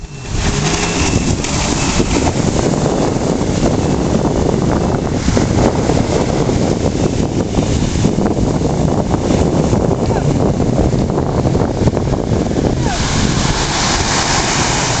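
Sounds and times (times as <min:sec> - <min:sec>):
sea: 0:00.0 - 0:15.0
wind buffeting microphone: 0:00.0 - 0:15.0.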